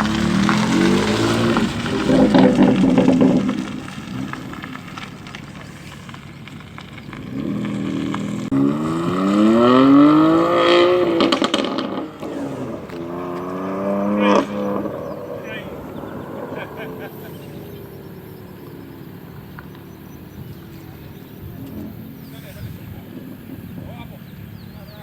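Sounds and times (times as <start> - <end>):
car engine accelerating: 0.0 - 25.0
exhaust crackles and pops: 0.0 - 25.0.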